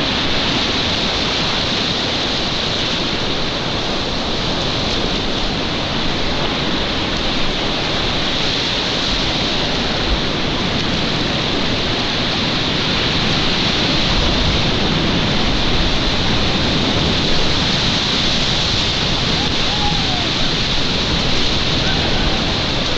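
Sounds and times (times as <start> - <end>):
stream water rushing: 0.0 - 22.9.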